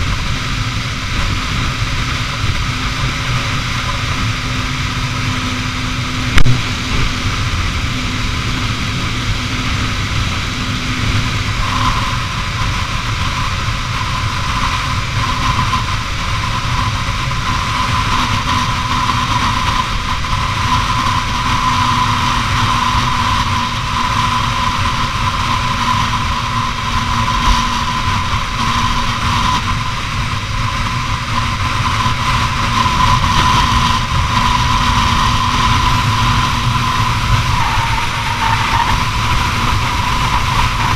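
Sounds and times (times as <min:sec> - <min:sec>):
motorcycle engine cruising: 0:00.0 - 0:40.9
wind and road noise: 0:00.0 - 0:40.9.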